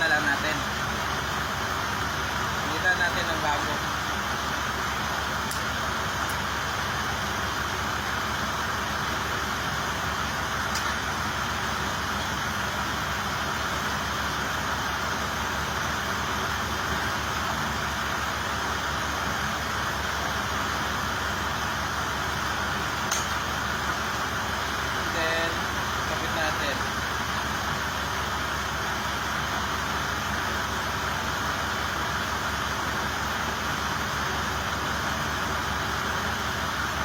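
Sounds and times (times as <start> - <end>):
machinery humming and hissing: 0.0 - 37.0.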